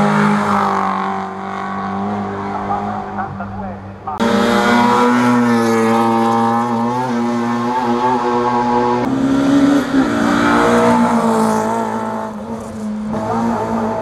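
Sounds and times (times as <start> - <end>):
rally car engine at high revs: 0.0 - 3.5, 4.2 - 14.0.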